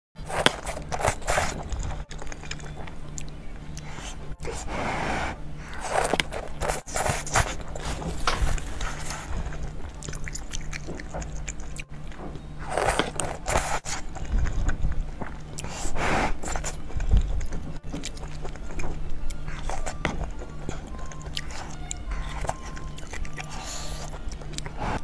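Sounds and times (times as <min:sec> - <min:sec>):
slurping noodles: 0:00.2 - 0:02.6, 0:03.8 - 0:11.8, 0:12.6 - 0:18.8, 0:19.5 - 0:25.0
chewing: 0:00.2 - 0:25.0.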